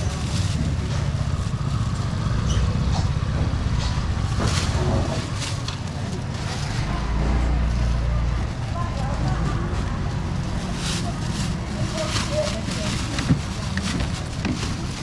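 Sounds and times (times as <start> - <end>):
faint voices: 0.0 - 15.0
market background rumble: 0.0 - 15.0.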